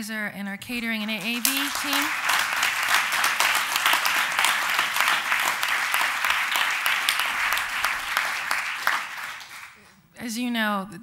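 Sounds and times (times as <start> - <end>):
audience applauding: 0.8 - 9.9.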